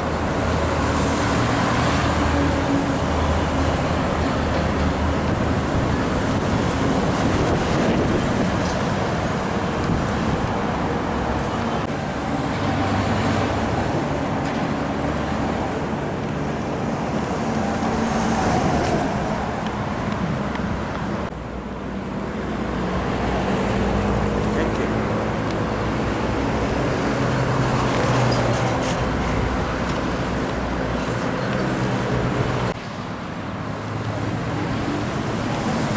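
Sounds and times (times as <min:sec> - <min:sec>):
road traffic passing: 0:00.0 - 0:35.9.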